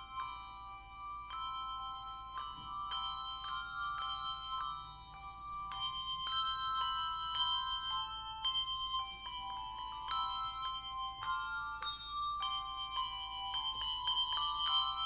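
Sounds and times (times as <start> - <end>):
handbells playing a hymn: 0.0 - 15.0.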